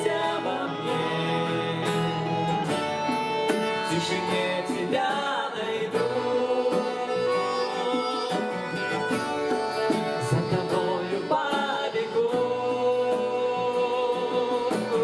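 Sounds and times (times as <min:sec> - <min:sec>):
person singing: 0:00.0 - 0:15.0
worship song instruments: 0:00.0 - 0:15.0.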